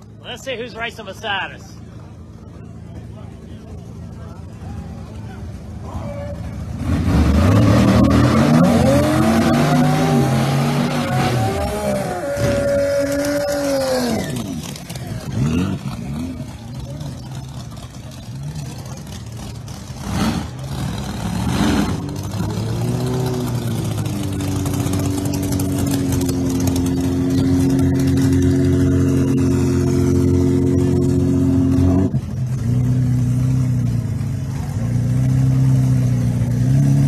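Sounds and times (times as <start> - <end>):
drag car engine revving: 0.8 - 37.0.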